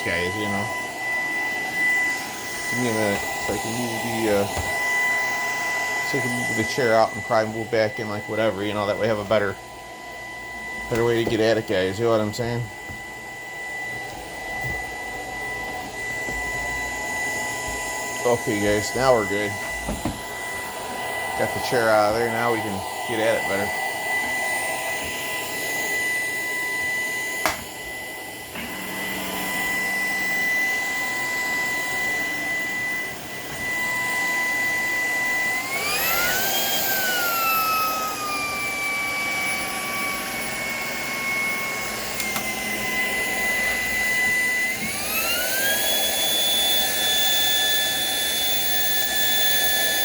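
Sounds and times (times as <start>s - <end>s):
cordless vacuum whining: 0.0s - 50.0s.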